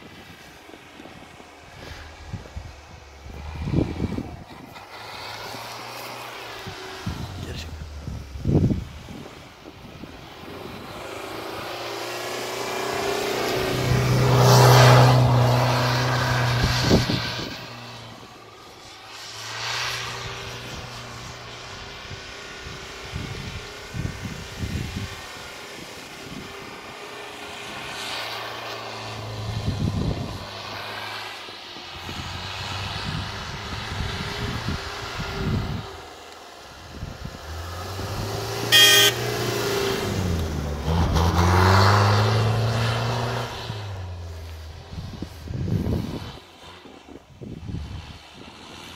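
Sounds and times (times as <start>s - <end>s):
off-road vehicle engine under load: 0.0s - 48.9s.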